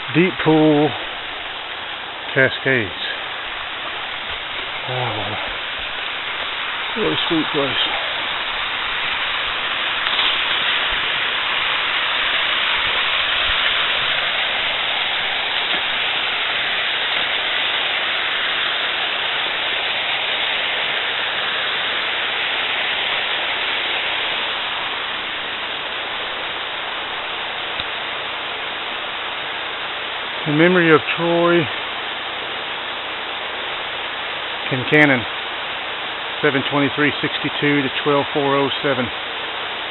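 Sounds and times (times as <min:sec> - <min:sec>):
river cascades rushing: 0:00.0 - 0:39.9.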